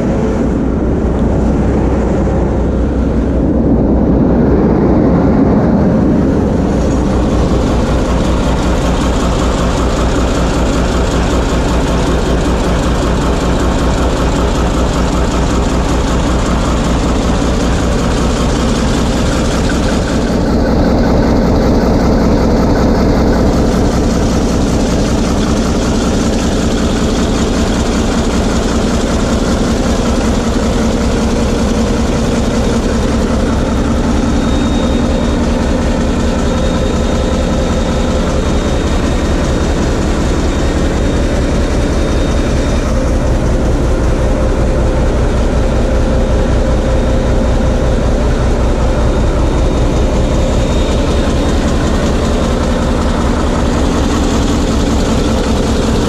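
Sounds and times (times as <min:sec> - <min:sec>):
diesel locomotive engine chugging: 0:00.0 - 0:56.0.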